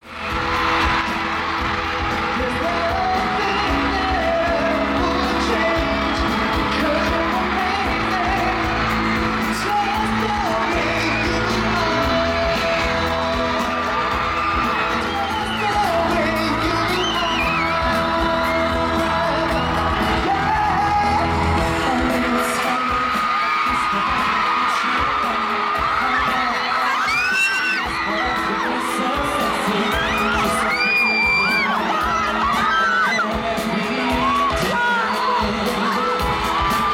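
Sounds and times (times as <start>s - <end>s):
audience whooping and shrieking: 0.0s - 36.9s
live pop music with singing: 0.0s - 36.9s.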